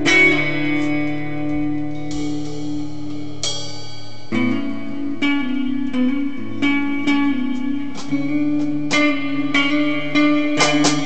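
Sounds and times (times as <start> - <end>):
electric guitar strumming chords: 0.0 - 11.0.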